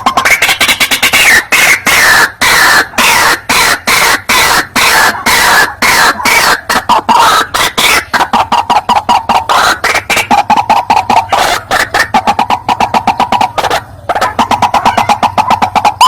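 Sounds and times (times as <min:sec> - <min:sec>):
waterhen harsh croaking calls: 0:00.0 - 0:16.0.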